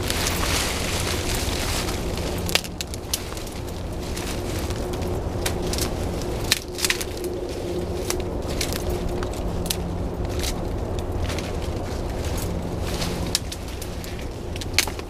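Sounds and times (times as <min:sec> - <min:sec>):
low hum: 0:00.0 - 0:15.0
sticks and leaves crackling: 0:00.0 - 0:15.0.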